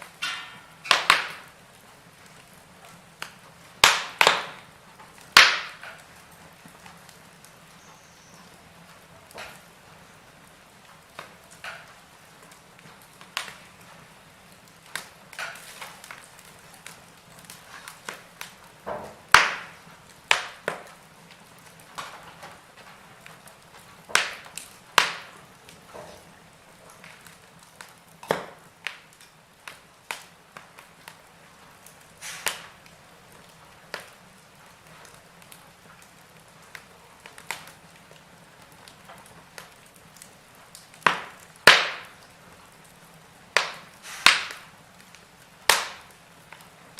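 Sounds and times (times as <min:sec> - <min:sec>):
faint steady hiss: 0:00.0 - 0:46.9
wood fire crackling: 0:00.0 - 0:46.9.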